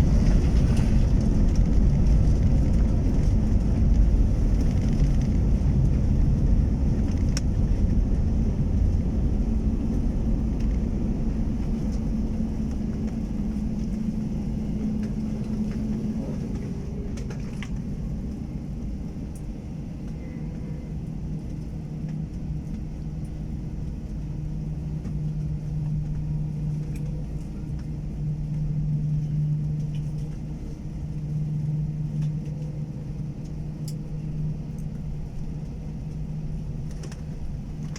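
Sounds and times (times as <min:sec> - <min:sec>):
jet engines low rumble: 0:00.0 - 0:37.9.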